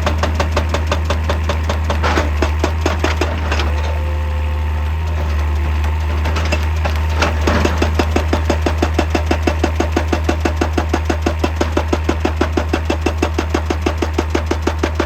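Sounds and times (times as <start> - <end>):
excavator engine running: 0.0 - 15.0
hydraulic breaker hammering: 0.0 - 15.0.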